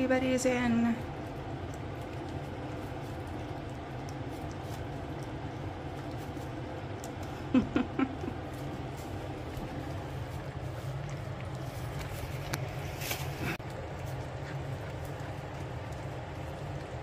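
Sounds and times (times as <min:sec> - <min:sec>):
puppies lapping and smacking: 0:00.0 - 0:17.0
steady low hum: 0:00.0 - 0:17.0.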